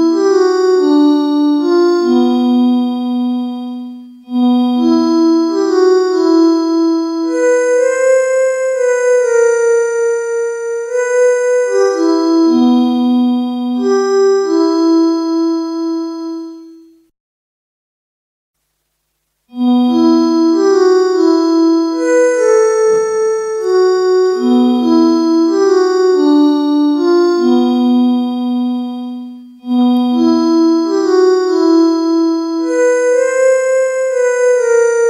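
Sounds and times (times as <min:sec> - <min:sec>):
keyboard melody of held notes: 0:00.0 - 0:17.1, 0:19.5 - 0:35.0.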